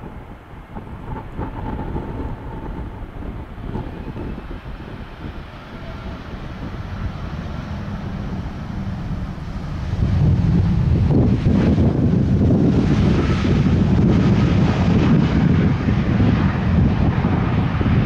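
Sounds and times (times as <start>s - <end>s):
jet engines low rumble: 0.0s - 18.0s.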